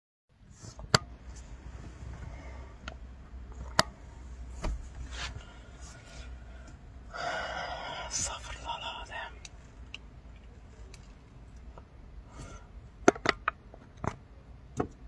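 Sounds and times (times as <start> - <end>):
low steady car rumble: 0.3 - 15.0.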